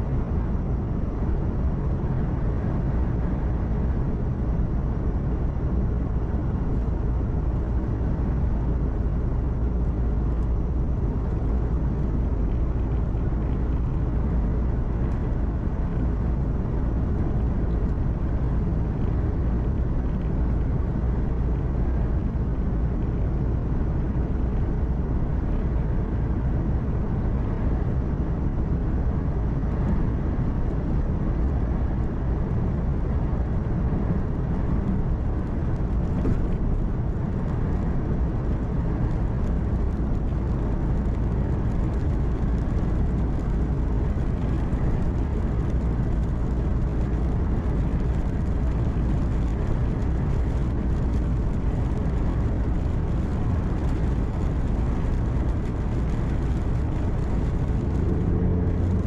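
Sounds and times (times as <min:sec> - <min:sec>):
truck engine with road noise: 0:00.0 - 0:59.0.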